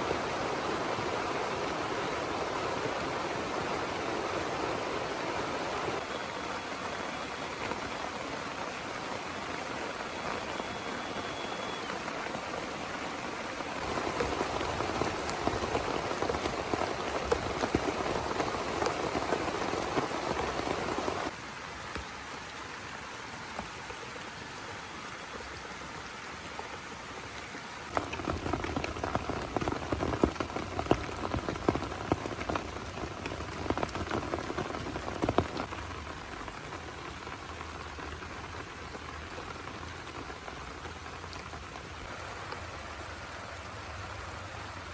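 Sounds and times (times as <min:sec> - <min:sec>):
heavy rain falling: 0:00.0 - 0:24.6, 0:25.2 - 0:44.9.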